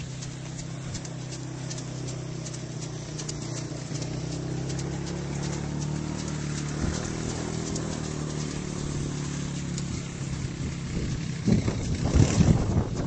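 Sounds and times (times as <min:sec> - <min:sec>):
engine humming low: 0:00.0 - 0:13.0
horse hooves clicking: 0:00.0 - 0:13.0.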